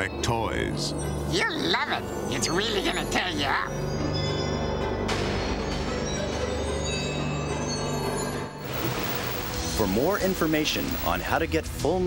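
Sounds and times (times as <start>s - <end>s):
trailer music with low drone: 0.0s - 12.0s.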